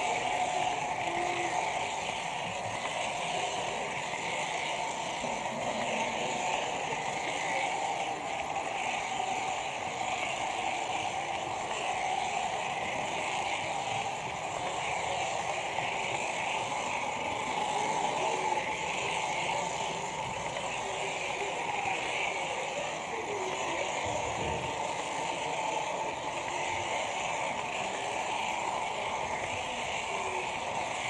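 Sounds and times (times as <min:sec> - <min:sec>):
model train whirring on track: 0:00.0 - 0:31.0.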